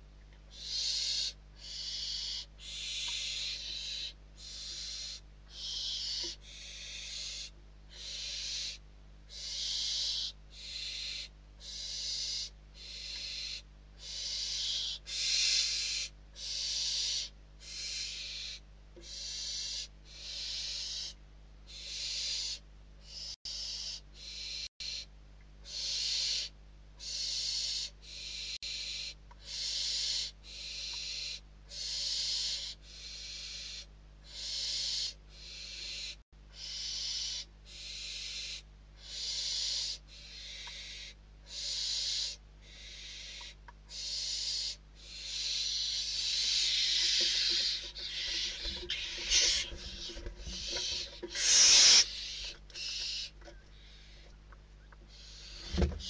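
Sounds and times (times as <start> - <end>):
owl chicks hissing begging calls: 0.5 - 54.3, 55.1 - 56.0.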